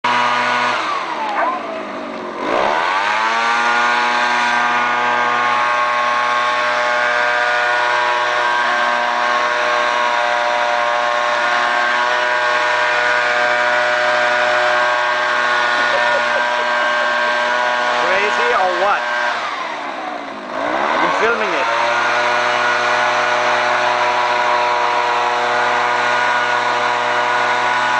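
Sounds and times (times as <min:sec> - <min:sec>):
backpack leaf blower engine: 0:00.0 - 0:27.9.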